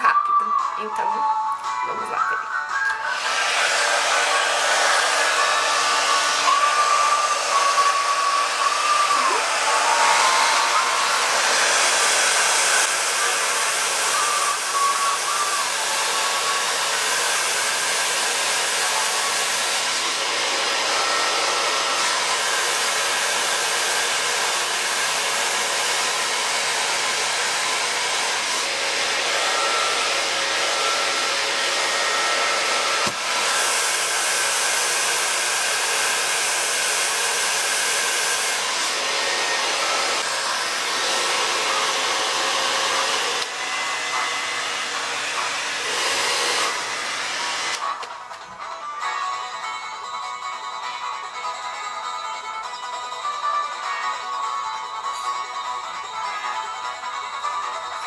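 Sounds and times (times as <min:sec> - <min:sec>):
hair dryers blowing: 0:00.8 - 0:48.6.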